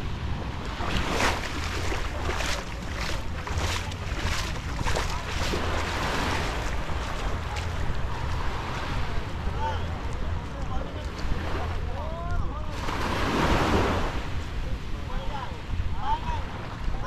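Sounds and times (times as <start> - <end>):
surf washing on sand: 0.0 - 17.0
wind rumbling on microphone: 0.0 - 17.0.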